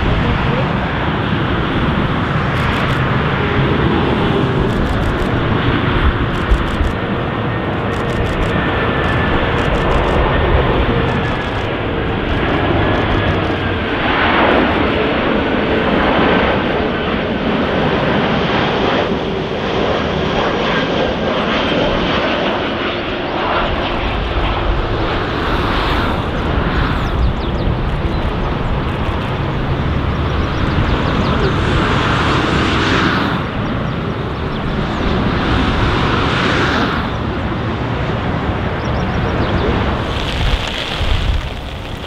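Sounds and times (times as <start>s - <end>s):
airliner engines running: 0.0s - 42.0s.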